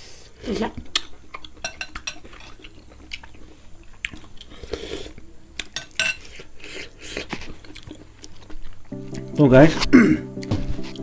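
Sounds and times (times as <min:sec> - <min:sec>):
people chewing with mouth smacks: 0:00.4 - 0:09.3.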